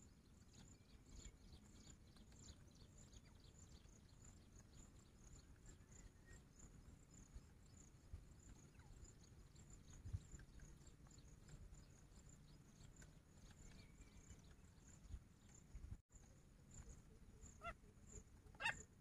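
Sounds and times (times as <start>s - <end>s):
faint insect chirping: 0.0s - 19.0s.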